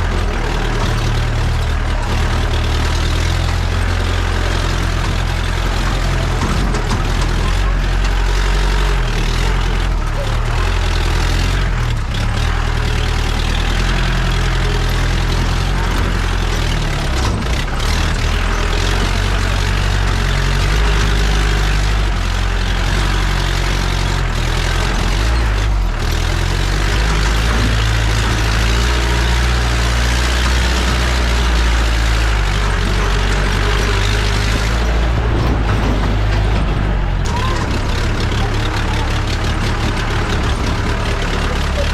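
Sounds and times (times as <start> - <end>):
car engine running: 0.0 - 41.9
vehicle travelling off-road: 0.0 - 41.9.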